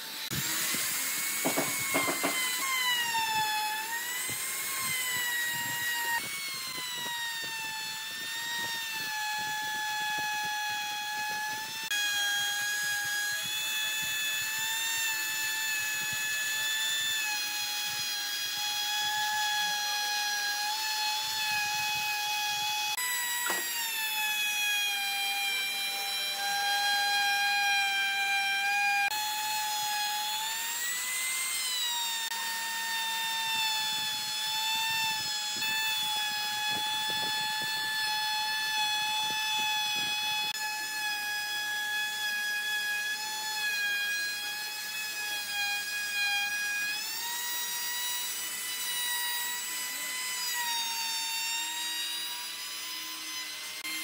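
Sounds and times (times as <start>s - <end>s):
router cutting hiss: 0.0s - 54.0s
router motor whine: 0.0s - 54.0s.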